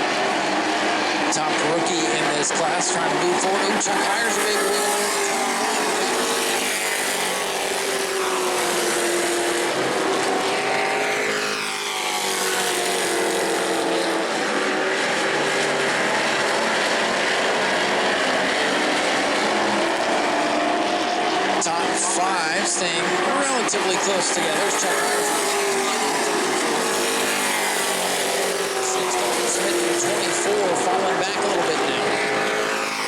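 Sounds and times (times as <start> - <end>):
race truck engines: 0.0 - 33.0.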